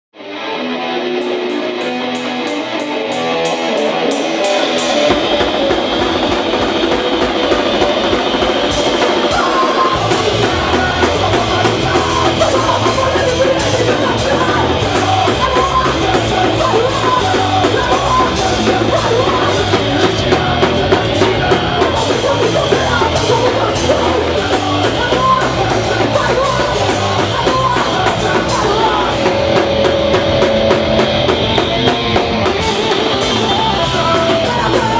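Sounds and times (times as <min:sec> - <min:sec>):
drums: 0:00.1 - 0:34.9
electric guitar: 0:00.1 - 0:34.9
punk band playing live: 0:00.2 - 0:34.9
bass and kick drum: 0:05.1 - 0:34.9.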